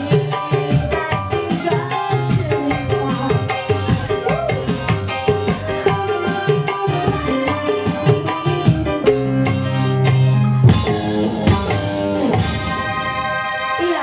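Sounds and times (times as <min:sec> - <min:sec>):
guitar: 0:00.0 - 0:14.0
keyboard: 0:00.0 - 0:14.0.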